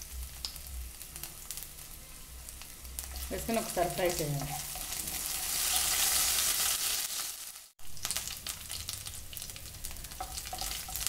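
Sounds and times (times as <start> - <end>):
leaves sizzling in hot oil: 0.0 - 11.0.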